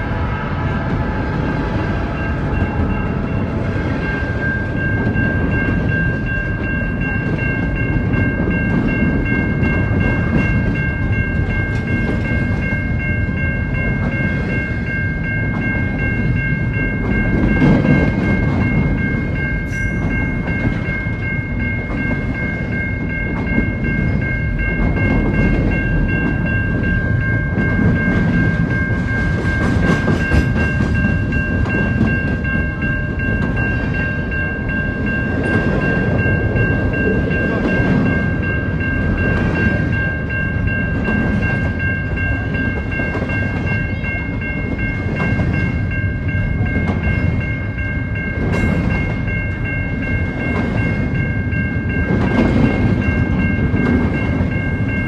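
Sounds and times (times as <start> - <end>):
train wheels rumbling and rattling: 0.0 - 55.0.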